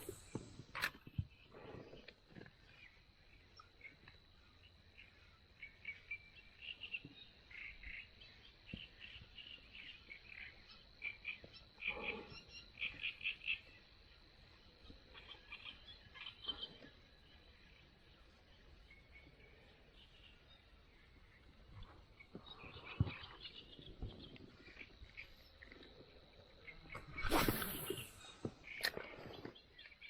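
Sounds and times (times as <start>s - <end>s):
frogs chirping: 2.7s - 30.0s.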